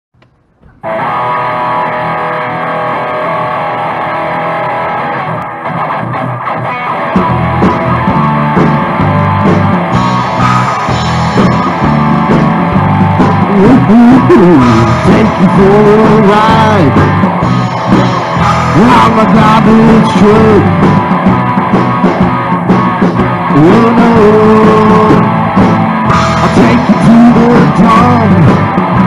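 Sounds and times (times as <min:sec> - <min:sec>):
bass guitar: 0:00.1 - 0:29.0
drum kit rock beat: 0:00.2 - 0:29.0
electric guitar chords: 0:00.2 - 0:29.0.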